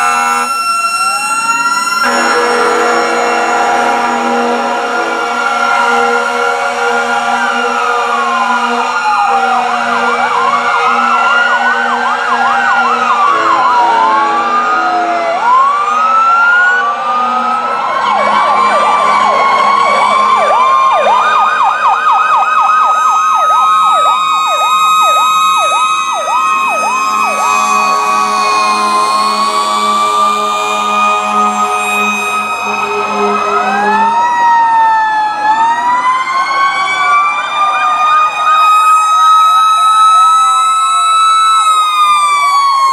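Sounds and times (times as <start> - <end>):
emergency sirens wailing: 0.0 - 42.9
fast siren yelp: 0.0 - 42.9.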